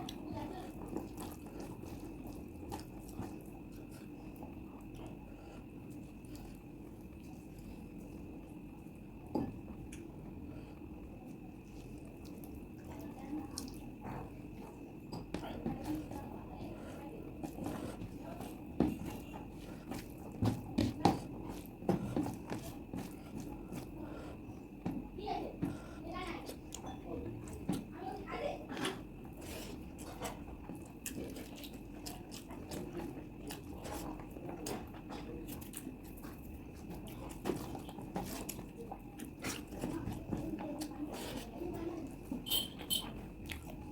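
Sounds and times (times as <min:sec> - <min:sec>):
person chewing food: 0:00.0 - 0:27.9, 0:28.6 - 0:43.9
wet eating sounds: 0:00.0 - 0:43.9.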